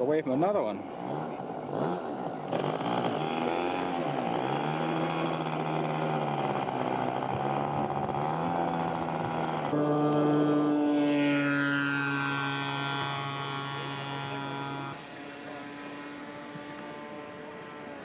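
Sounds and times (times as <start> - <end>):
model aircraft engine running: 0.0 - 18.0.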